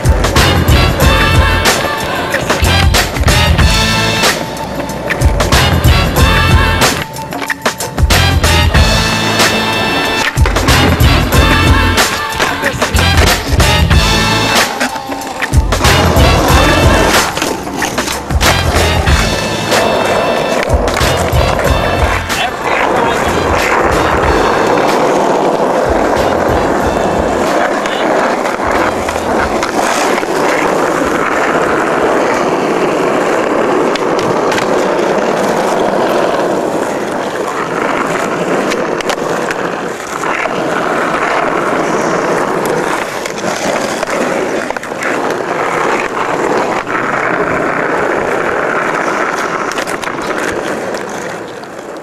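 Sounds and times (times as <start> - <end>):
skateboard clacks: 0.0 - 52.0
skateboard wheels rolling on asphalt: 0.0 - 52.0.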